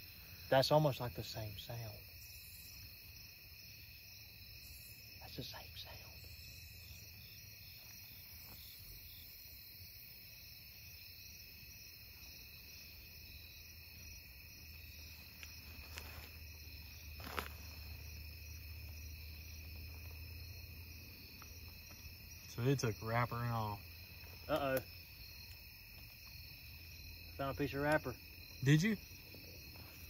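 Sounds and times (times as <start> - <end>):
night insects chorus: 0.0 - 30.0
pulsing insect call: 0.0 - 30.0.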